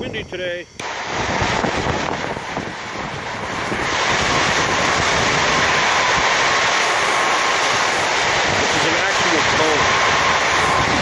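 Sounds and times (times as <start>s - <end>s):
torch flame hissing: 0.0s - 11.0s
wind buffeting microphone: 0.0s - 11.0s.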